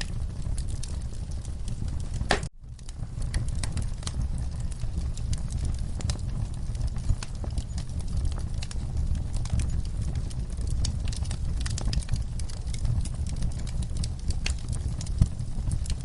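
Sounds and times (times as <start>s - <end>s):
rumble of fire flames: 0.0s - 16.0s
wood fire crackling and popping: 0.0s - 16.0s.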